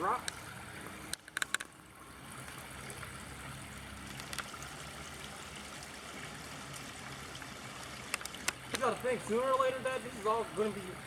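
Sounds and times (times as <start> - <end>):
water trickling over rocks: 0.0 - 11.0.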